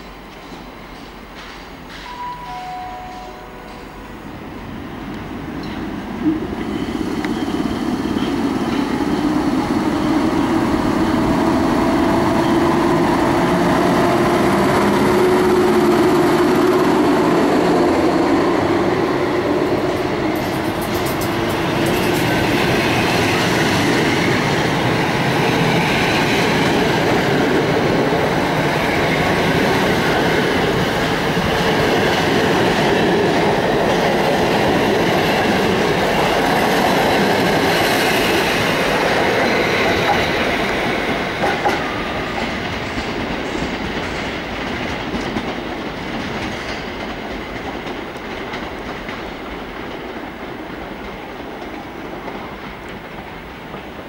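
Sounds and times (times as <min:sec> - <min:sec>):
train coaches rolling past: 0:00.0 - 0:54.0.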